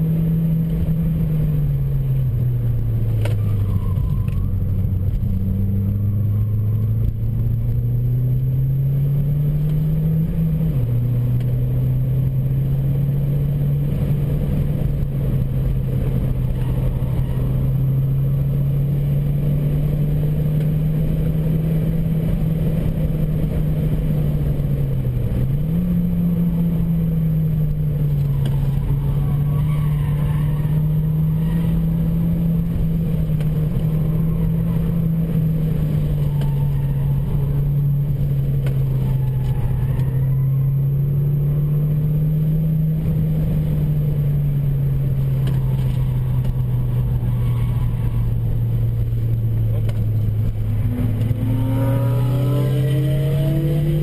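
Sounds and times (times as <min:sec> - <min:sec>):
car engine pulling hard: 0:00.0 - 0:54.0
road noise: 0:00.0 - 0:54.0.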